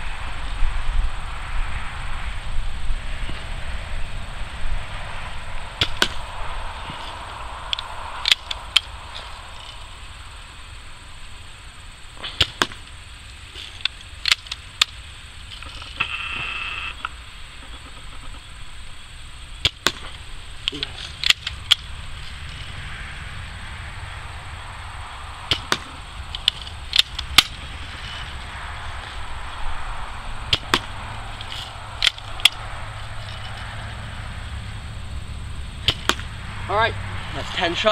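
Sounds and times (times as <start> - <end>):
low background rumble: 0.0 - 37.9.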